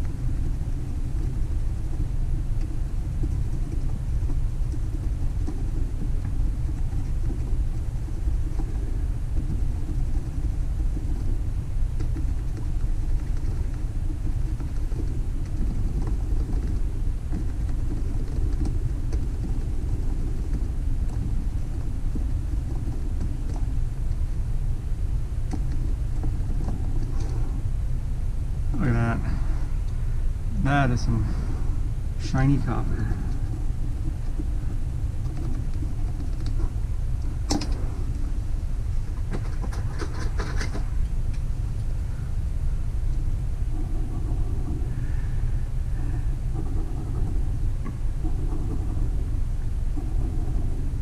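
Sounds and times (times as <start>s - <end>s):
low rumble: 0.0s - 51.0s.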